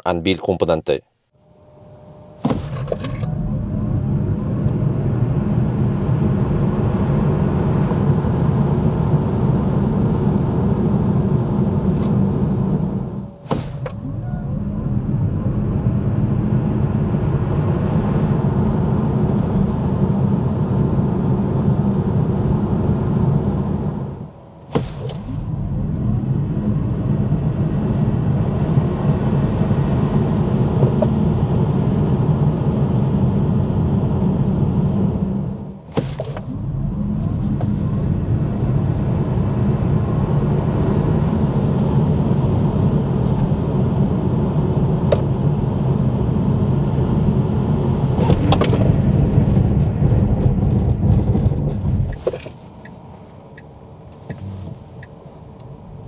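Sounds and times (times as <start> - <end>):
road and tyre rumble: 1.4 - 56.0
wind noise inside car: 1.5 - 56.0.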